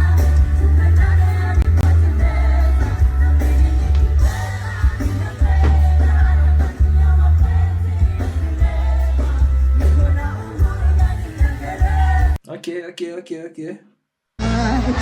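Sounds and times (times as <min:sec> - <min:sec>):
heavy bass: 0:00.0 - 0:12.4, 0:14.4 - 0:15.0
music with singing: 0:00.0 - 0:12.4, 0:14.4 - 0:15.0.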